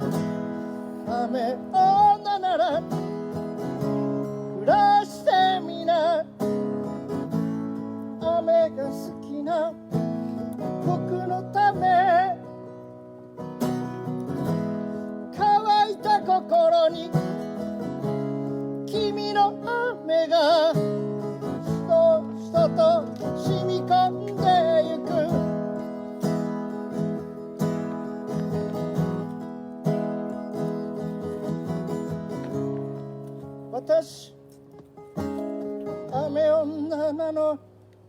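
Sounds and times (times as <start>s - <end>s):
strummed acoustic guitar: 0.0s - 38.0s.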